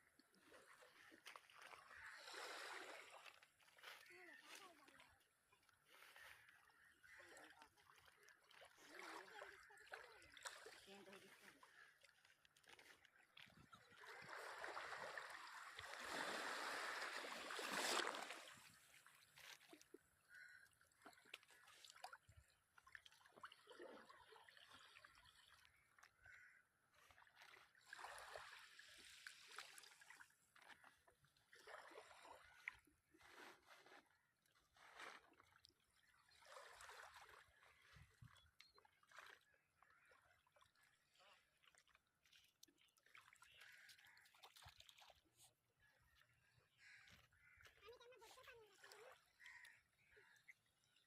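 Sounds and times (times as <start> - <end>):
seawater splashing and sloshing: 0.1 - 26.1, 26.9 - 51.0.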